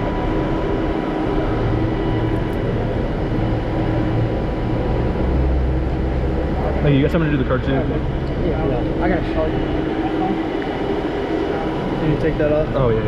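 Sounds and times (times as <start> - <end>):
bus engine idling: 0.0 - 13.0
faint high whine: 0.0 - 13.0.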